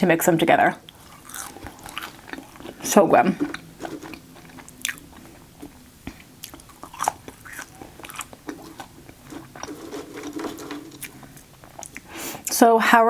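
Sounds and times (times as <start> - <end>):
chewing and biting food: 0.8 - 12.1.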